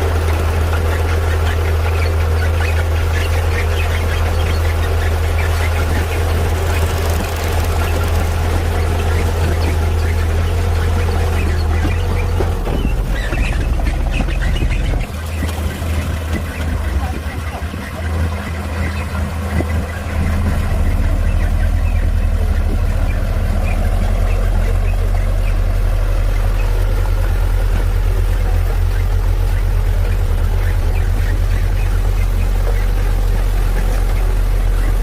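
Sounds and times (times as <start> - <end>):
diesel engine rumbling: 0.0 - 35.0.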